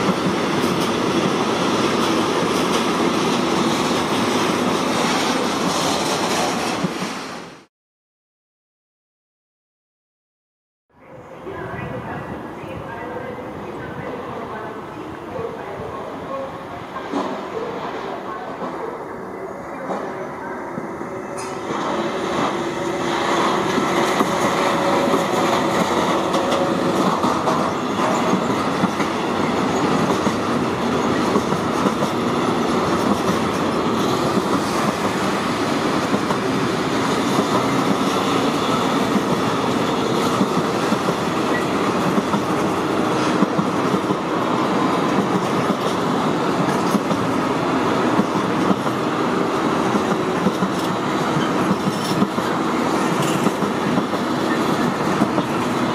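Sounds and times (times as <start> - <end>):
freight train wheels on rails: 0.0 - 7.7, 11.4 - 55.9.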